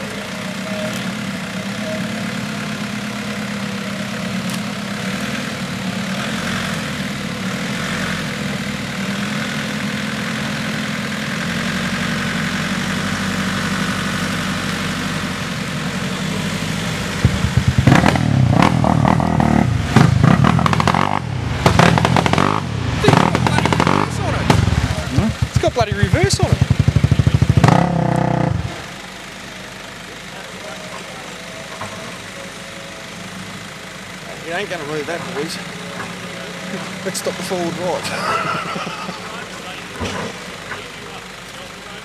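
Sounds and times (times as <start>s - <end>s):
engine idling: 0.0s - 42.0s.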